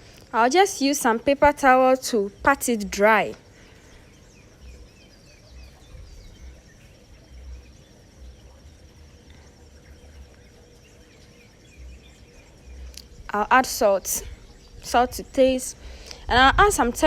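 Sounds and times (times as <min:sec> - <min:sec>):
bird chirps: 0:02.1 - 0:16.2.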